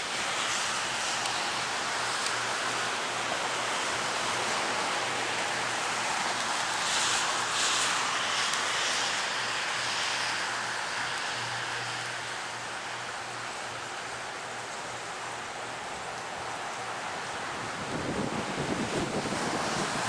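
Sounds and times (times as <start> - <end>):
power line arcing and crackling: 0.0 - 20.0.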